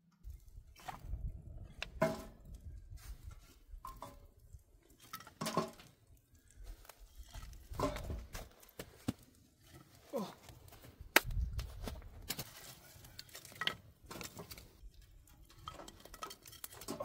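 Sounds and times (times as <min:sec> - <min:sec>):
fire burning low rumble: 0:00.2 - 0:16.9
firewood clacking together: 0:00.8 - 0:17.0.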